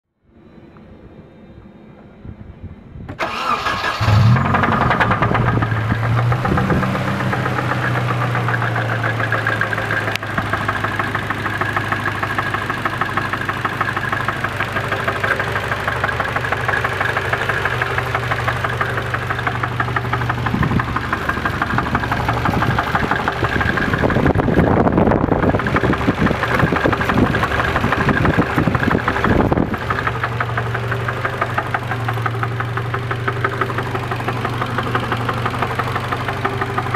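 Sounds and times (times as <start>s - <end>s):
car engine idling with knock: 4.4s - 36.9s.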